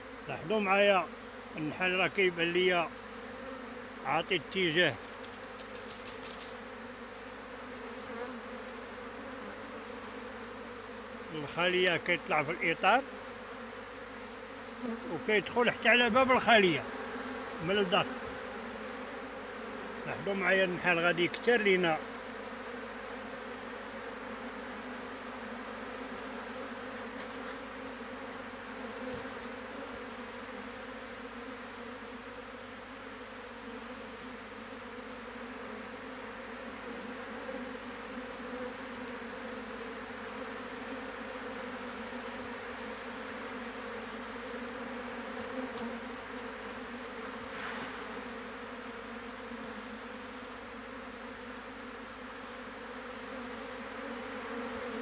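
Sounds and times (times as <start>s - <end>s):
bee swarm buzzing: 0.0s - 55.0s.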